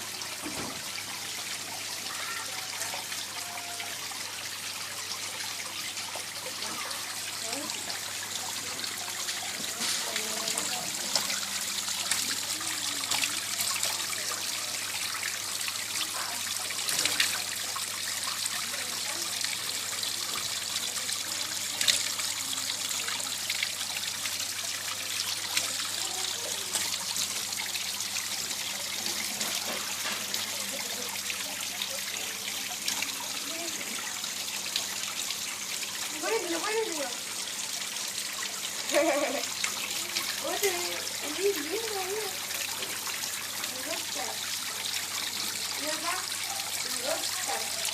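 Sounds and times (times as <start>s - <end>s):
waterfall trickling into pond: 0.0s - 47.9s.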